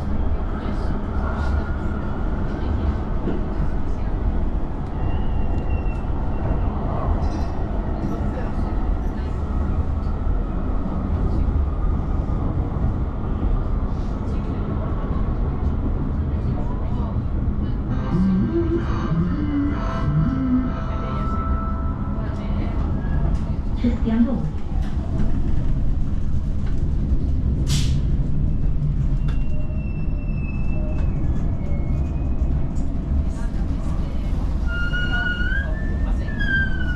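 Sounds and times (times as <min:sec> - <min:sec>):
tram wheels on rails: 0:00.0 - 0:36.9.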